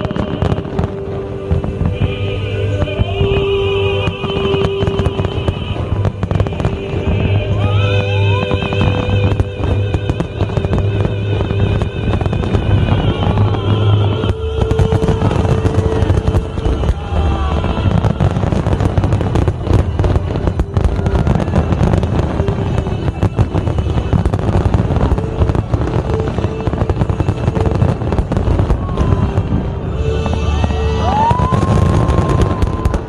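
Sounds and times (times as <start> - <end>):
fireworks crackling and popping: 0.0 - 33.0
fireworks whistling: 0.0 - 33.0.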